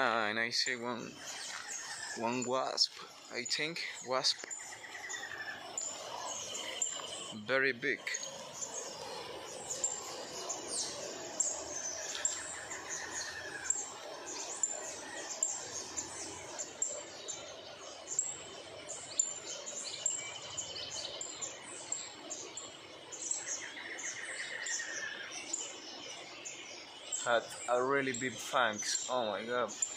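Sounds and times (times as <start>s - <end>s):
wild birds singing and chirping: 0.0s - 29.9s.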